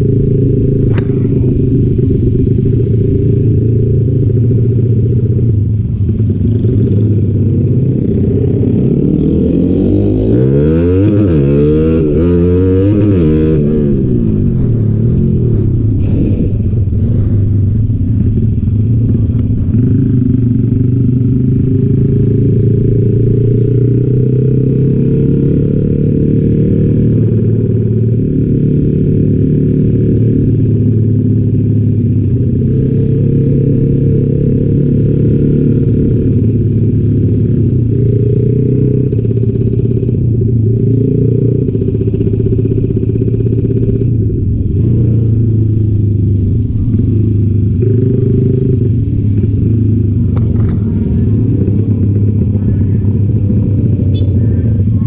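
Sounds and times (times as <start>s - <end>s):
motorbikes passing: 0.0s - 55.0s
motorcycle engine running steadily: 0.0s - 55.0s.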